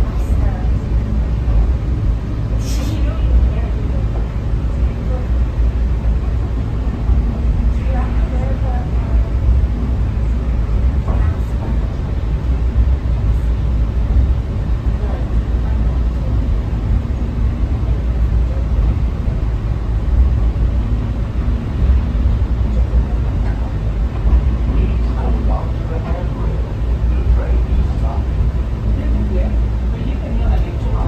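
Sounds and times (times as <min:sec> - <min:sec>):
faint voices: 0:00.0 - 0:31.0
train rumbling on guideway: 0:00.0 - 0:31.0.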